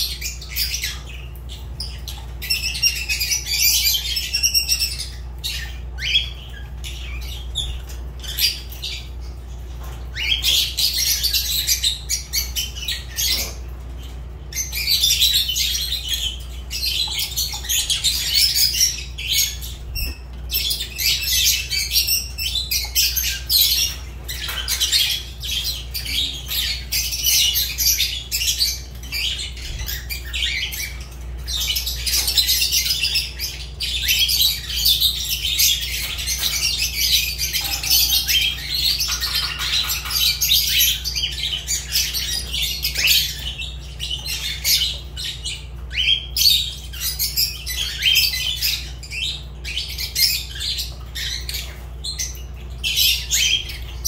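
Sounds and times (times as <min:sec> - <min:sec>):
lovebirds chattering and squawking: 0:00.0 - 0:54.0.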